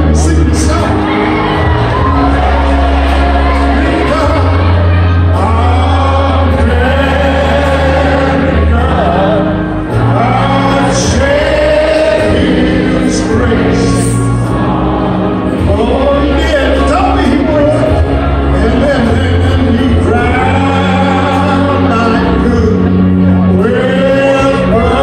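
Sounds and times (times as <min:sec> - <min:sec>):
man singing: 0:00.0 - 0:25.0.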